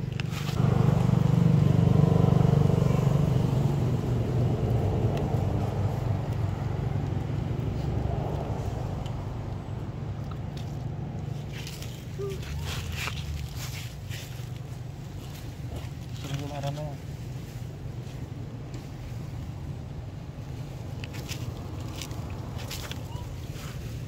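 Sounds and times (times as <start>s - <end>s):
passing vehicle engine rumble: 0.0s - 24.0s.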